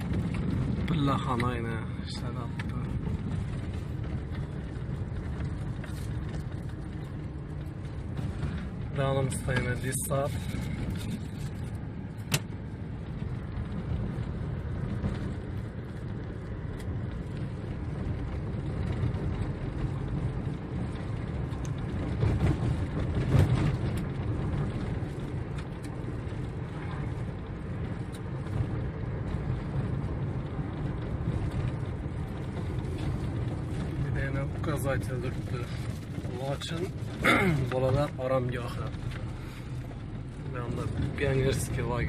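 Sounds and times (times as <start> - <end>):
car engine and tyre rumble: 0.0 - 42.0.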